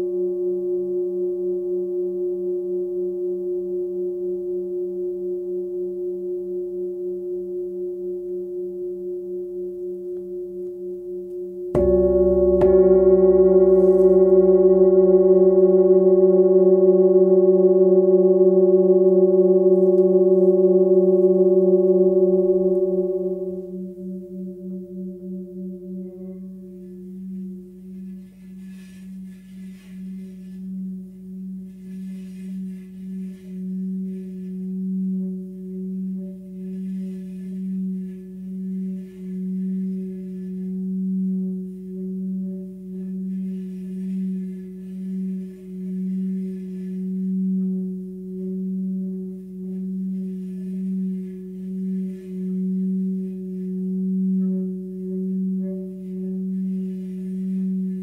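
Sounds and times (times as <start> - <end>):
singing bowl humming: 0.0 - 58.0.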